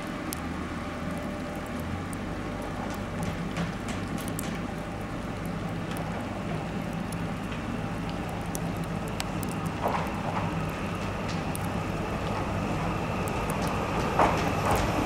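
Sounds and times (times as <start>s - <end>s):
falling water patter: 0.0s - 15.0s
sharp drips and crackles: 0.0s - 15.0s
train hum: 0.0s - 15.0s.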